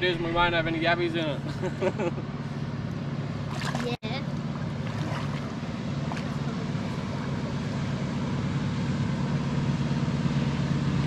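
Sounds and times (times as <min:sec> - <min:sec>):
motorboat engine hum: 0:00.0 - 0:11.0.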